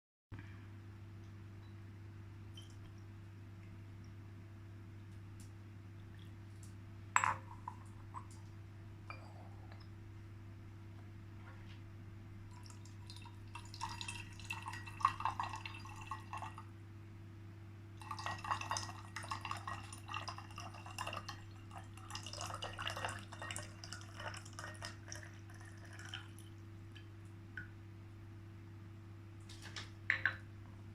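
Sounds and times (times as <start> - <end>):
low electrical hum: 0.3 - 30.9.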